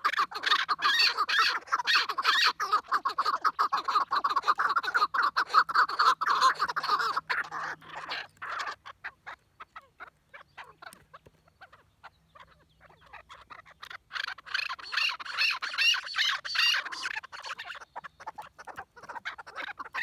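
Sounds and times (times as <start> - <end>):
partridges calling: 0.0 - 20.0.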